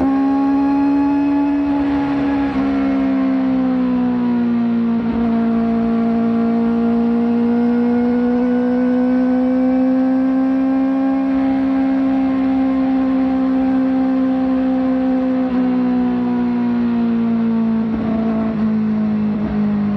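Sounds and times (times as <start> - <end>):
motorcycle engine revving high: 0.0 - 19.9.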